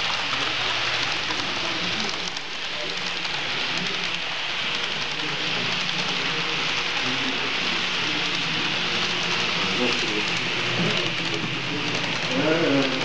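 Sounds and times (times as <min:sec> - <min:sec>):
model train wheels rattling on rails: 0:00.0 - 0:13.0.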